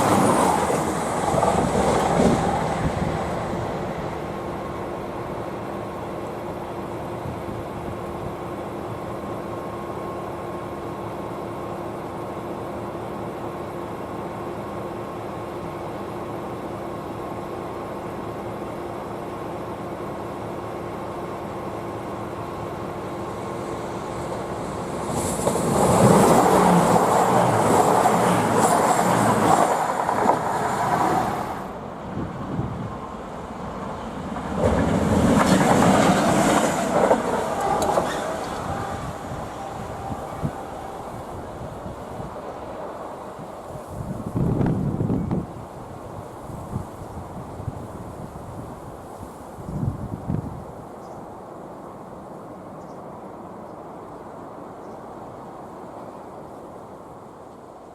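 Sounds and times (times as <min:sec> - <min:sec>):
diesel train passing: 0:00.0 - 0:57.9.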